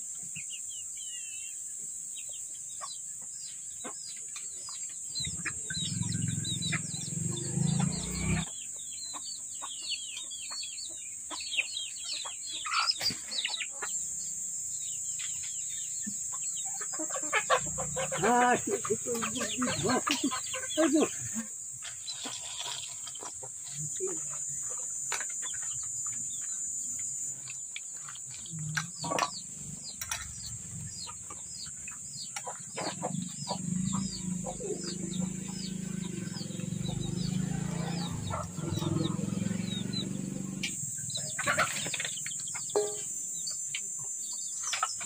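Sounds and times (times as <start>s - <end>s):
small bird chirping: 0.1s - 45.0s
high-pitched insect drone: 5.0s - 9.7s, 11.4s - 45.0s.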